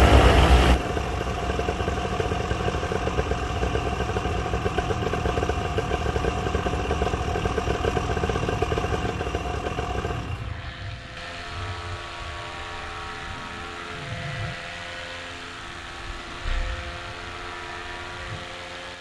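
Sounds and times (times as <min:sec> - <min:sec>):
paramotor engine chugging: 0:00.0 - 0:18.6.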